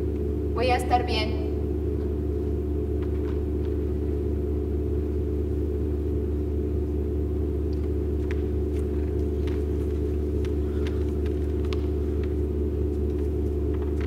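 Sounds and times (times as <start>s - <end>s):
low drone of held tones: 0.0s - 14.0s.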